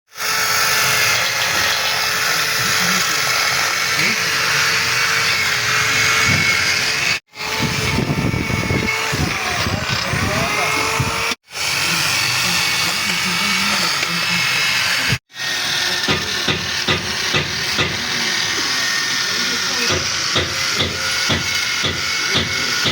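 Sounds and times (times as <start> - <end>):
power tool running on metal: 0.1 - 22.9.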